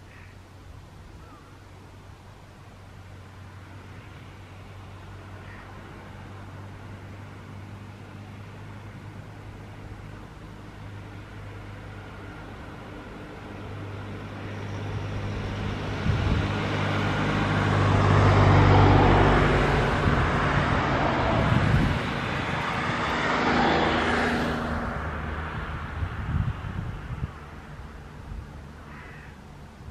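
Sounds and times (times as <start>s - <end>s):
vehicle passing by: 2.4s - 29.9s.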